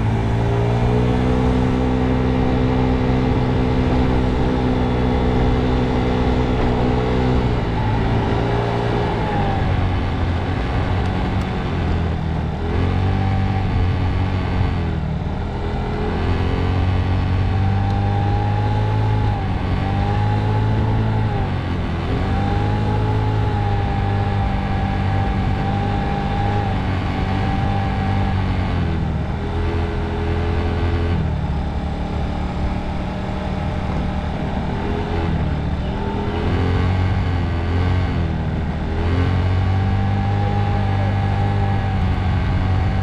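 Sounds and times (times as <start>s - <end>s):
scooter motor running: 0.0s - 43.0s.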